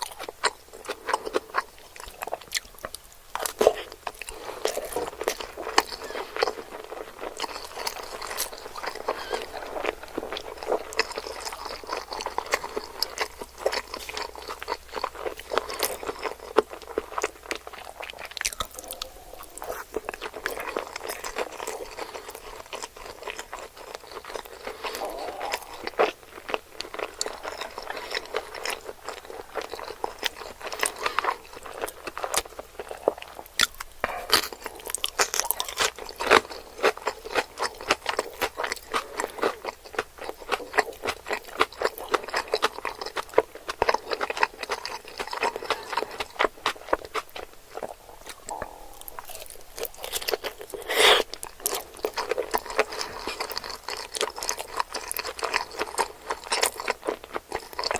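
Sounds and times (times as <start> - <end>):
chewing and crunching food: 0.0 - 57.9.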